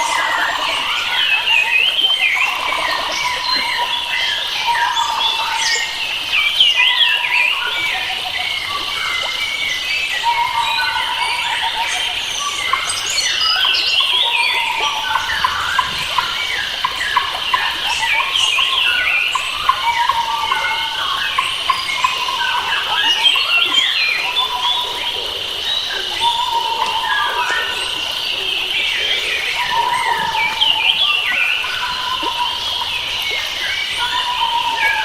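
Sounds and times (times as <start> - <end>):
forest birds singing: 0.0 - 35.0.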